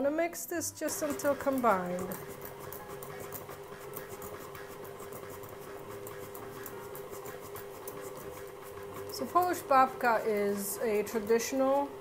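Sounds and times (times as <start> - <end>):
beater ticking through batter: 0.8 - 12.0
stand mixer motor humming: 0.9 - 12.0.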